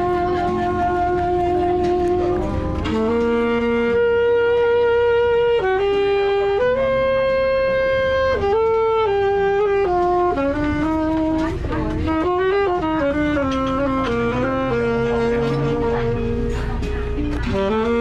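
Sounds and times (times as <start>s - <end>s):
saxophone jazz melody: 0.0s - 18.0s.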